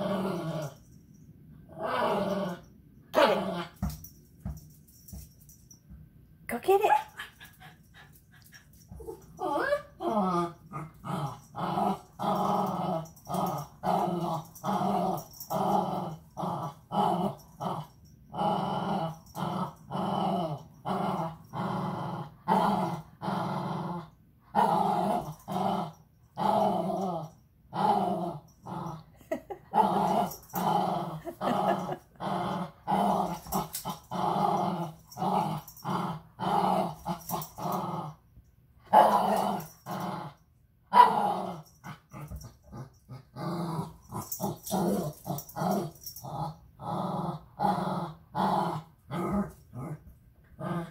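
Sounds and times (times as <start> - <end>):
small dog play-growling: 0.0 - 0.9, 1.7 - 4.6, 7.1 - 38.2, 38.8 - 40.4, 41.0 - 50.9.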